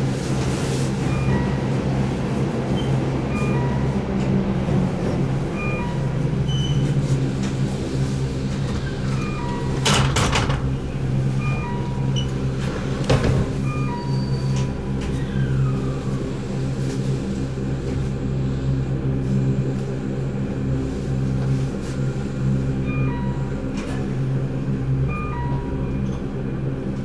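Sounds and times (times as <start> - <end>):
train equipment humming: 0.0 - 27.0.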